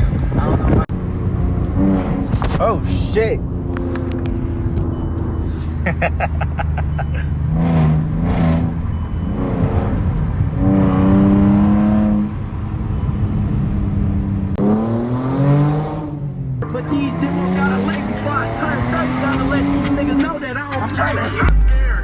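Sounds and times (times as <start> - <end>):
car exhaust accelerating hard: 0.0 - 21.6.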